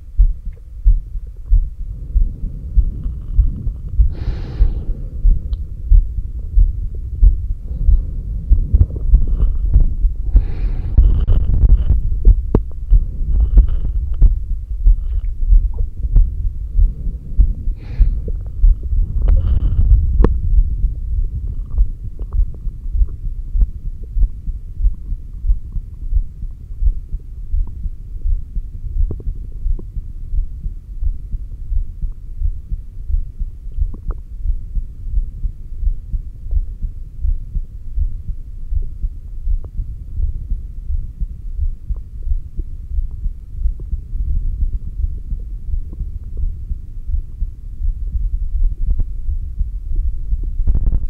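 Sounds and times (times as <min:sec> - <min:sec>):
heartbeat through a stethoscope: 0:00.0 - 0:51.0.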